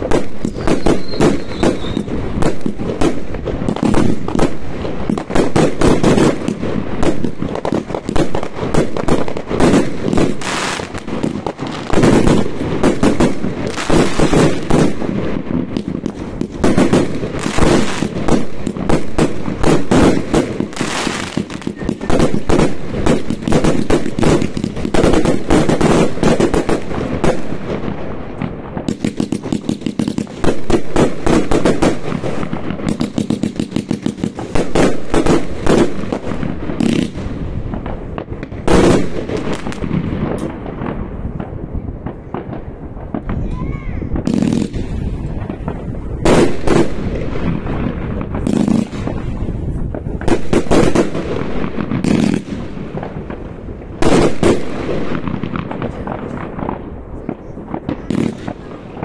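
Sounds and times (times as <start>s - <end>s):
fireworks banging and crackling: 0.0s - 59.0s.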